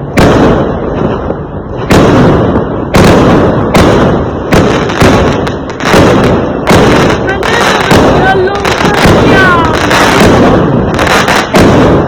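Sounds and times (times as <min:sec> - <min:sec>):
fireworks exploding: 0:00.0 - 0:12.0.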